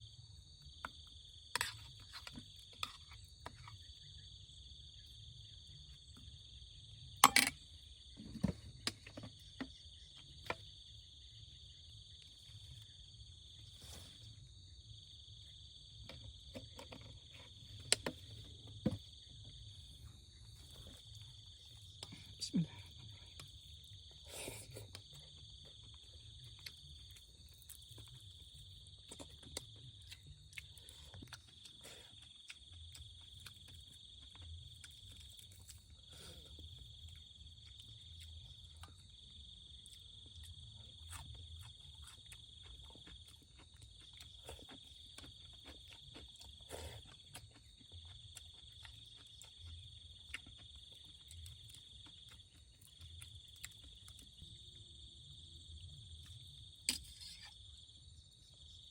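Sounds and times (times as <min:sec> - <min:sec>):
insects trilling: 0:00.0 - 0:58.9.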